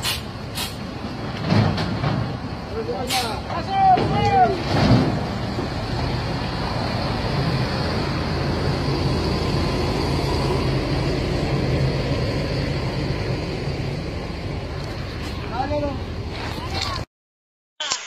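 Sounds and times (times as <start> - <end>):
bus engine droning: 0.0 - 16.6.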